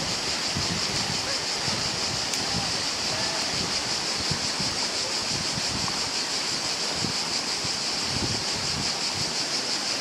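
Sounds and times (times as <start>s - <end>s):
wind buffeting microphone: 0.0s - 9.5s
river rapids rushing: 0.0s - 10.0s.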